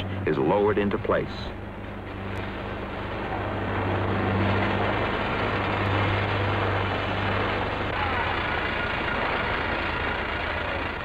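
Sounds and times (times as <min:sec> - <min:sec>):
machinery engine droning: 0:00.0 - 0:11.0.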